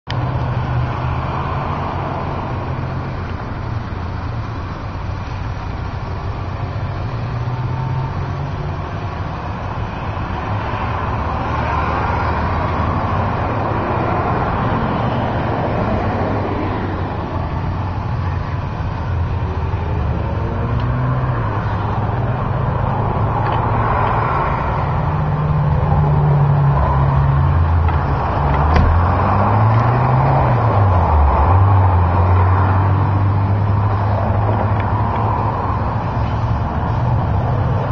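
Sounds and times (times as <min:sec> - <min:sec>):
vehicle engine humming: 0:00.0 - 0:37.9.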